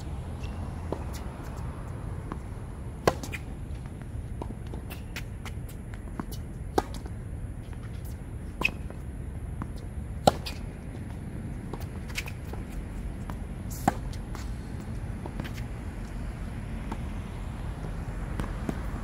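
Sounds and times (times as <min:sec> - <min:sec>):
tennis balls struck by rackets: 0:00.0 - 0:19.0.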